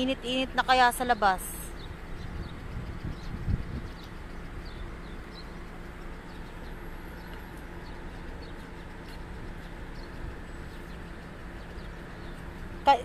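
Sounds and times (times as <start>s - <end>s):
low outdoor background hum: 0.0s - 13.0s
small birds chirping: 0.0s - 13.0s.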